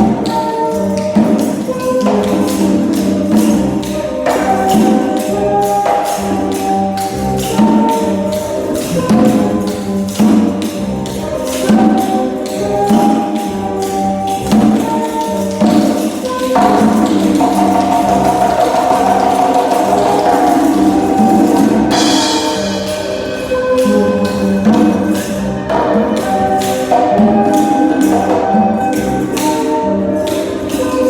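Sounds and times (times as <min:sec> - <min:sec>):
percussion tapping strokes: 0:00.0 - 0:31.0
pitched percussion melody: 0:00.0 - 0:31.0.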